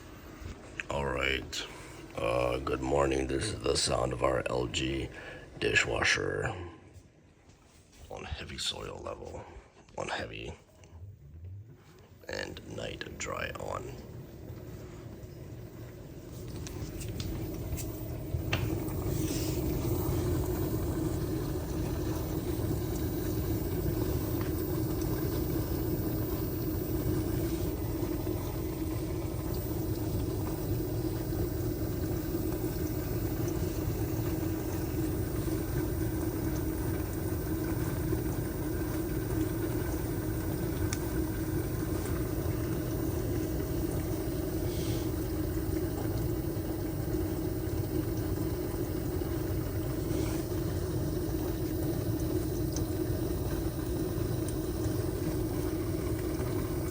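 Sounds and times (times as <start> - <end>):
circulating water rumble: 0.0 - 7.1, 7.7 - 56.9
dishwasher pump motor hum: 0.0 - 56.9.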